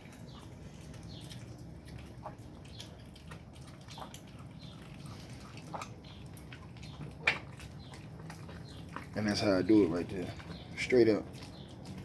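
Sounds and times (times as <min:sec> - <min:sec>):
puppies chewing meat: 0:00.0 - 0:12.0.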